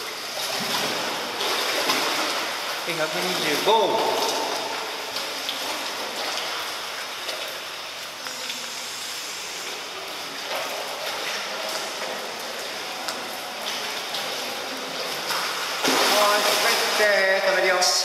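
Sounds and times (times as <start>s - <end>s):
pool water lapping and splashing: 0.0s - 18.0s.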